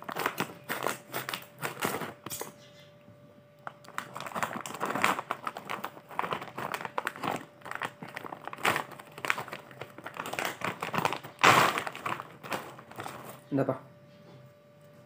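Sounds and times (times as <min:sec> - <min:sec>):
plastic bag crinkling: 0:00.0 - 0:02.4, 0:03.6 - 0:13.5.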